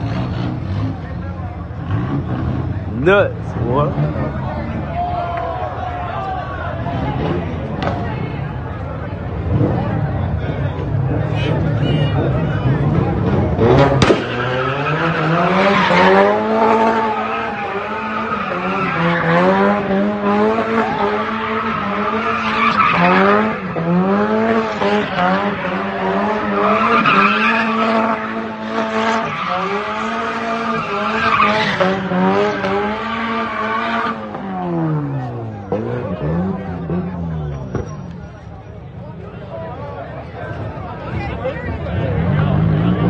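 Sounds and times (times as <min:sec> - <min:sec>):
car engine revving high: 0:00.0 - 0:05.0, 0:09.3 - 0:38.2, 0:41.7 - 0:43.0.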